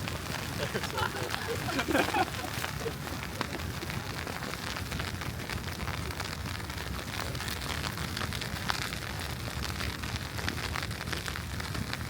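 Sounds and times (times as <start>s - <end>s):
crackling hiss of wet snow: 0.0s - 12.0s.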